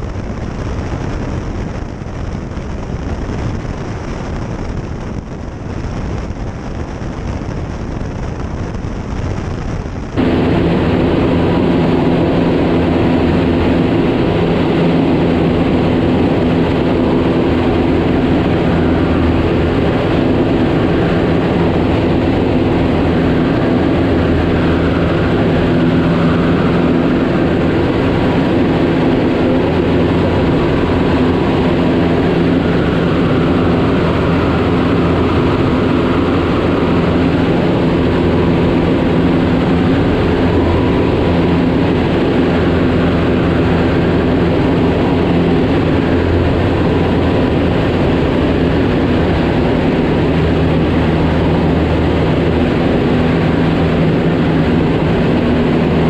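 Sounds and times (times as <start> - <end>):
airplane engine and propeller droning: 0.0 - 56.0
rushing noise: 0.0 - 56.0.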